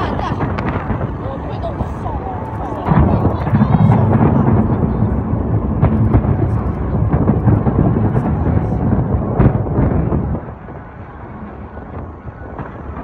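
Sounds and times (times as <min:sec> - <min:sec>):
distant fireworks rumble: 0:00.0 - 0:13.0.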